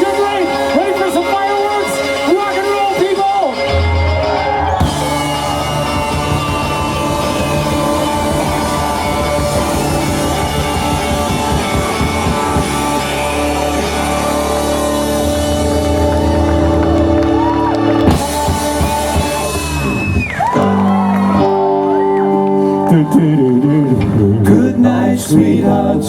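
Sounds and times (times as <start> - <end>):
live rock band playing: 0.0 - 24.4.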